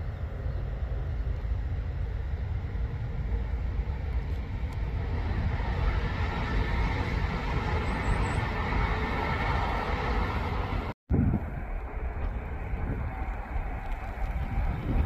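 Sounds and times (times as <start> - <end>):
low rumble: 0.0 - 15.0
train wheels rushing on rails: 0.0 - 15.0.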